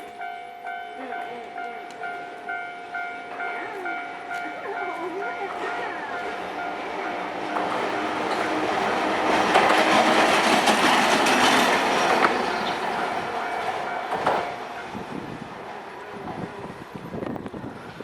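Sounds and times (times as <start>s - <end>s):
crossing bell ringing: 0.0s - 18.0s
tram wheels on rails: 0.0s - 18.0s
wheels knocking at rail joints: 0.0s - 18.0s.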